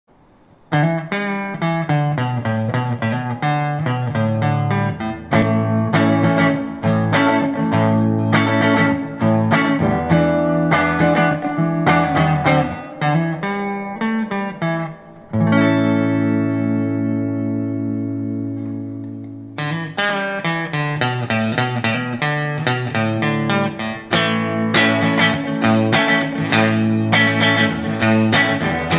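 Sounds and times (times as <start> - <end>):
clean electric guitar playing: 0.7 - 28.9.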